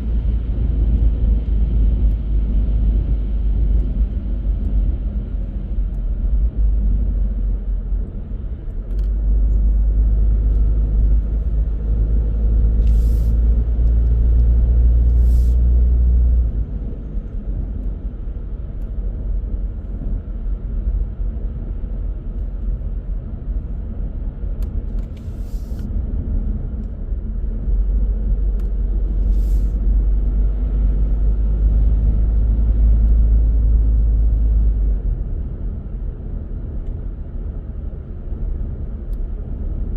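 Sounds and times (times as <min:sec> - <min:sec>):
car driving along road rumble: 0:00.0 - 0:39.9.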